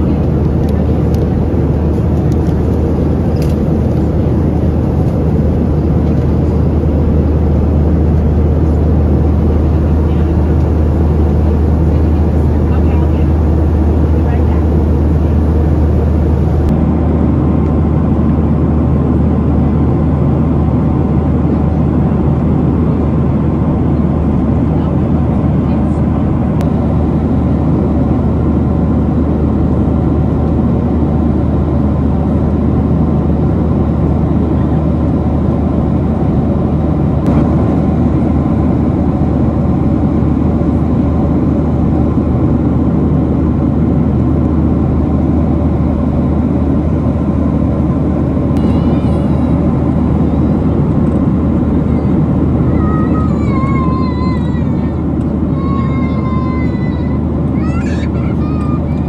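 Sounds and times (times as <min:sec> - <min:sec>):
airplane cabin engine rush: 0:00.0 - 0:59.0.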